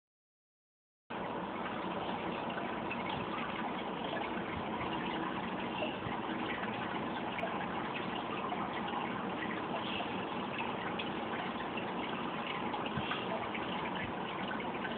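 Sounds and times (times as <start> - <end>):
aquarium water running and splashing: 1.1 - 14.9.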